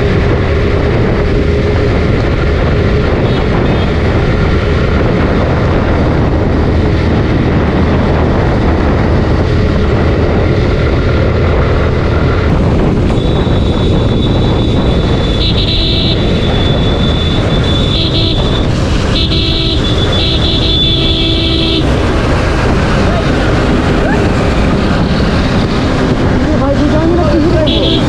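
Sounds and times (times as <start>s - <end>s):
motorcycle engine running: 0.0s - 28.0s
wind on microphone: 0.0s - 28.0s.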